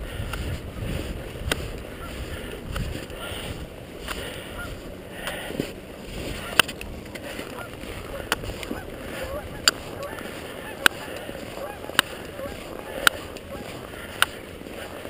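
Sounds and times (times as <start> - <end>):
footsteps crunching on snow: 0.0 - 15.0
steady background rush: 0.0 - 15.0.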